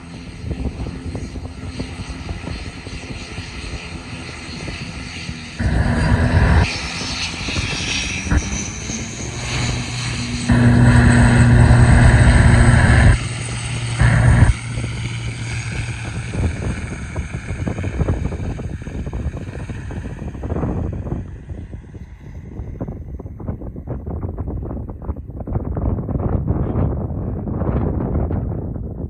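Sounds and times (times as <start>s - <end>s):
turboprop engines humming: 0.0s - 29.0s.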